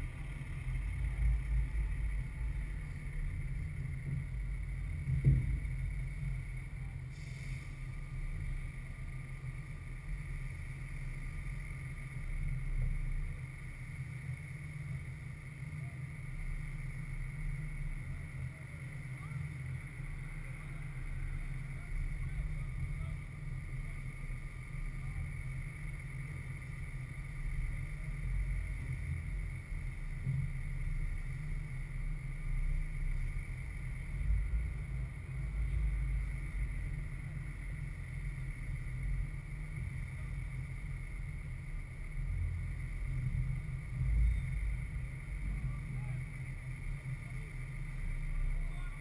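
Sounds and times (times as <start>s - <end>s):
faint high whine: 0.0s - 49.0s.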